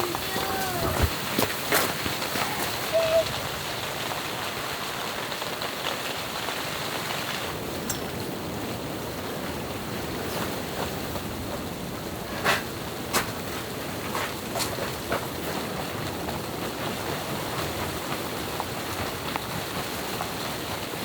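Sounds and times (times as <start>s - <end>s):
snowstorm wind: 0.0s - 21.0s.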